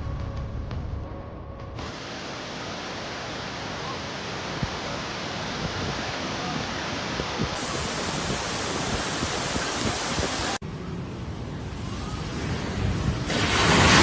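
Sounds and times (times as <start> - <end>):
steady rushing noise: 1.8 - 14.0.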